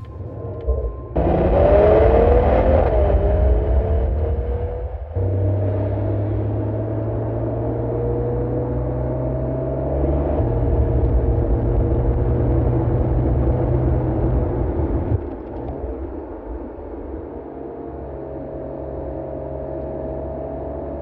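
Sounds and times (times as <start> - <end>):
car engine under load: 0.0 - 21.0.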